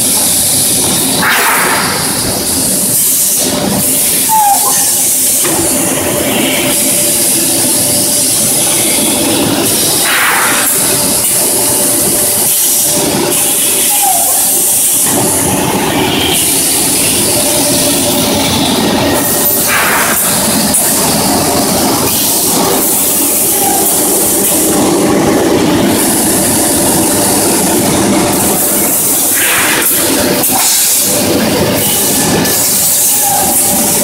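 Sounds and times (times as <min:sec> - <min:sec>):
machine running with high hiss: 0:00.0 - 0:34.0.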